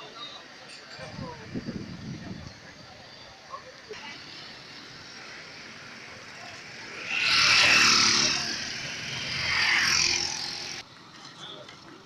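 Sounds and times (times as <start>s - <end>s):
vehicles passing close by: 0.0s - 12.0s.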